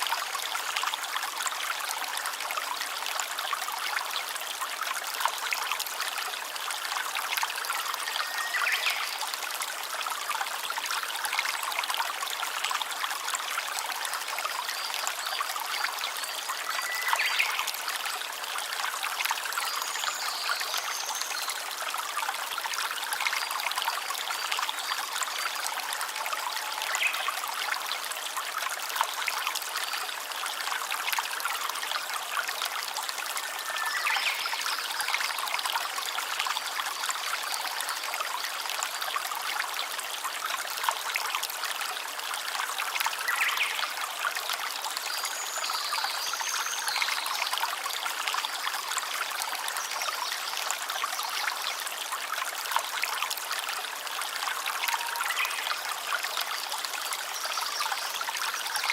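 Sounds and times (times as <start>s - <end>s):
stream trickling and babbling: 0.0s - 58.9s.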